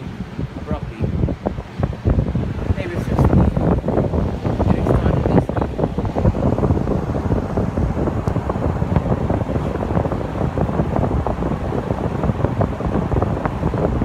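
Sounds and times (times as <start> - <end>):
air conditioner fan running: 0.0 - 14.0
wind buffeting microphone: 0.0 - 14.0.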